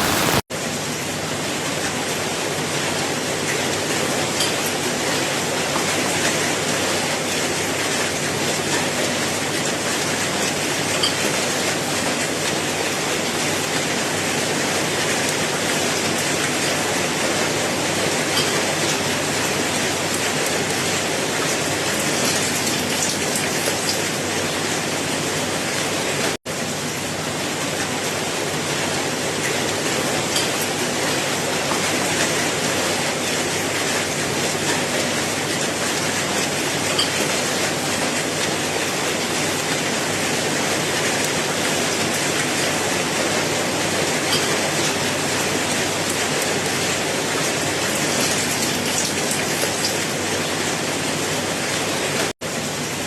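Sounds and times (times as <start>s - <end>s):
steady rain hiss: 0.0s - 0.4s, 2.0s - 53.0s.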